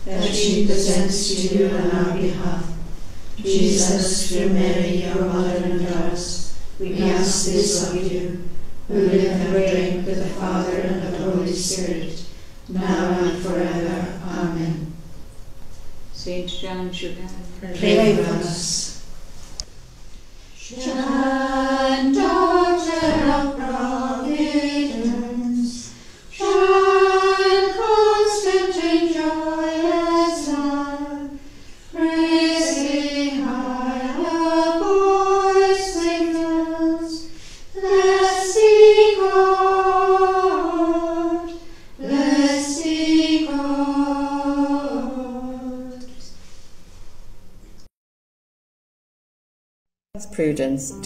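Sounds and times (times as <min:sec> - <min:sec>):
women's choir singing a hymn: 0:00.0 - 0:15.0, 0:17.6 - 0:19.0, 0:20.6 - 0:46.6.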